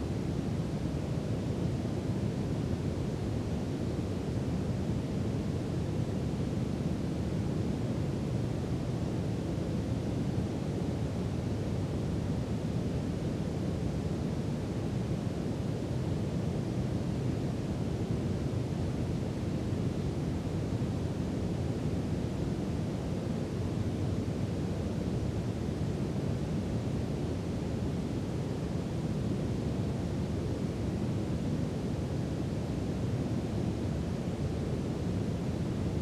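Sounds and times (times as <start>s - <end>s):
brown noise hiss: 0.0s - 36.0s.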